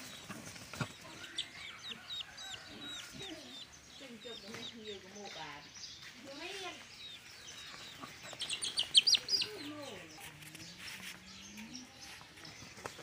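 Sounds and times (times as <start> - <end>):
chickens gliding calls: 0.0 - 5.3, 6.3 - 13.0
chickens chirping: 0.0 - 13.0.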